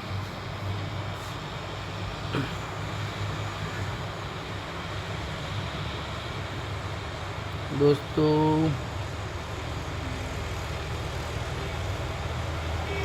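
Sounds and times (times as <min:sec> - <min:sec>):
hot air station blowing: 0:00.0 - 0:13.0.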